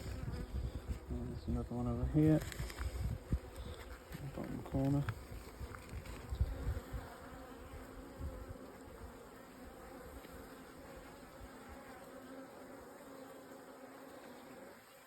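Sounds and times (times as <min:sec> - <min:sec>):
bees humming: 0:00.0 - 0:15.0.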